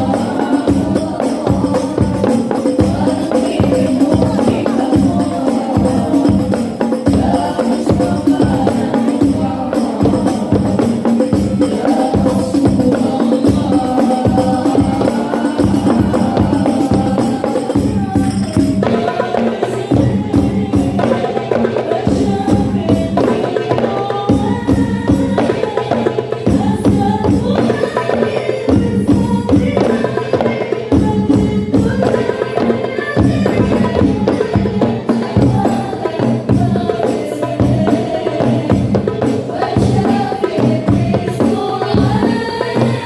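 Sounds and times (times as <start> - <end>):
frame drums and jingles: 0.0 - 43.0
voices singing a melody: 0.0 - 43.0.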